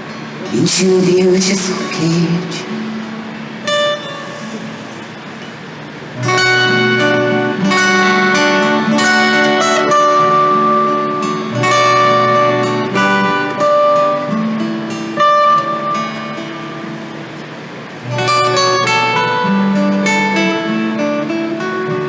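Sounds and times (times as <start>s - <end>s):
acoustic guitar playing: 0.0s - 22.0s.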